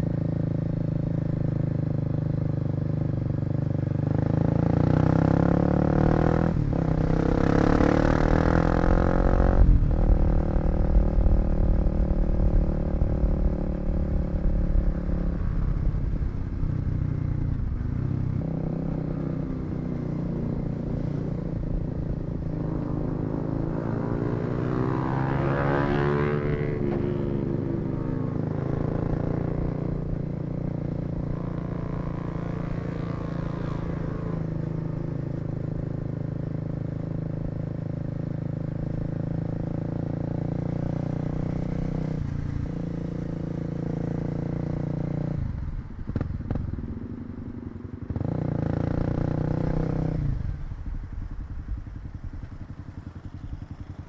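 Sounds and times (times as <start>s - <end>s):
motorcycle engine revving: 0.0s - 54.0s
road and wind rumble: 0.0s - 54.0s.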